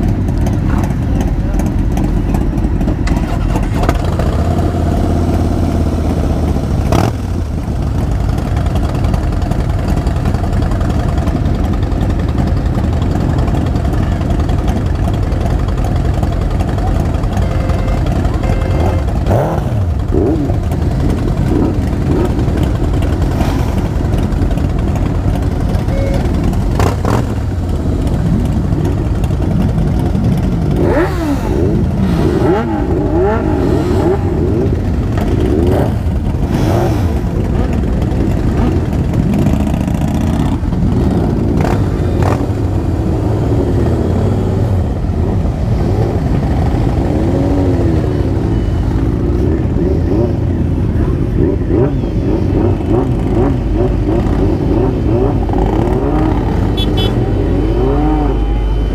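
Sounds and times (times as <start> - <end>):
motorcycle engine revving: 0.0 - 58.9
motorcycle engines running: 0.0 - 58.9.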